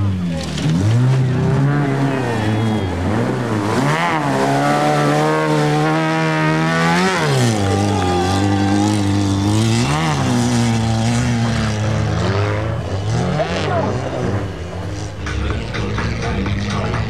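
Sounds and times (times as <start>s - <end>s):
race vehicle engine revving: 0.0s - 17.0s.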